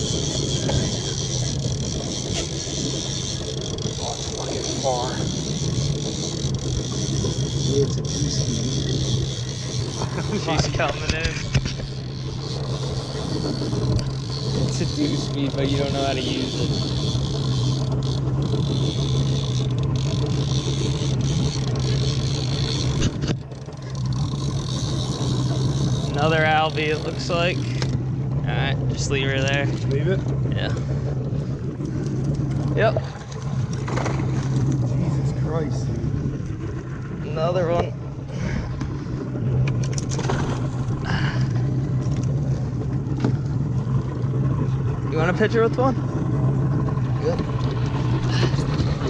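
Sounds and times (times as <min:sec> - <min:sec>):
water wash: 0:00.0 - 0:23.2, 0:23.8 - 0:49.0
boat engine droning: 0:00.0 - 0:49.0.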